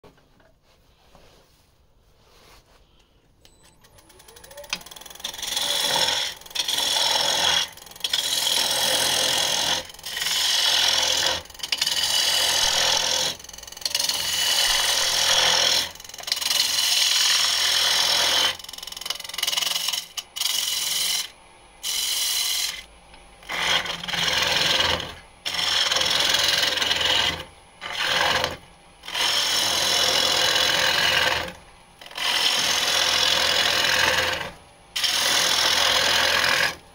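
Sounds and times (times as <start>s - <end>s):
gouge cutting wood on lathe: 4.1s - 36.8s.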